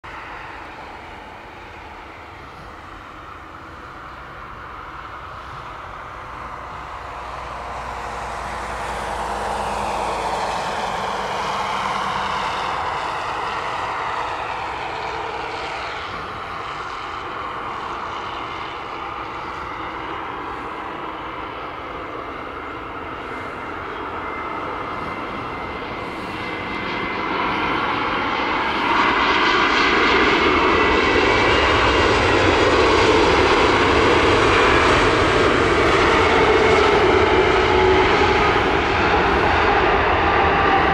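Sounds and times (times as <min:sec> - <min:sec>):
jet engines whining on approach: 0:00.0 - 0:40.9.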